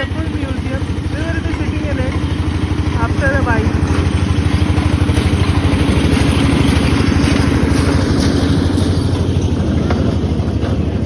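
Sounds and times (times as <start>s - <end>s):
small toy train engine running: 0.0s - 11.0s.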